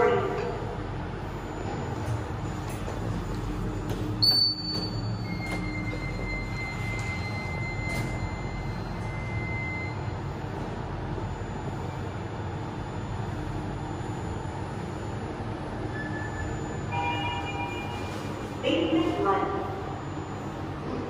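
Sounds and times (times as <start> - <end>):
lift humming and rumbling: 0.0 - 21.0.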